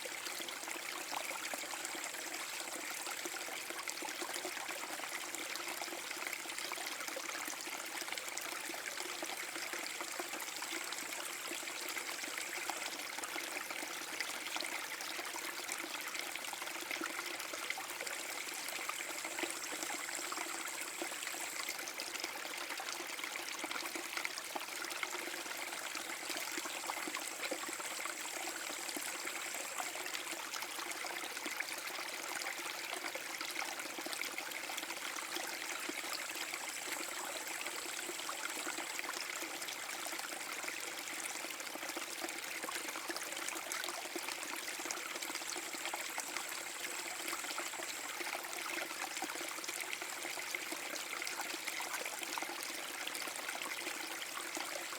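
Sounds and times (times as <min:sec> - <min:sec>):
small waterfall splashing: 0:00.0 - 0:54.9.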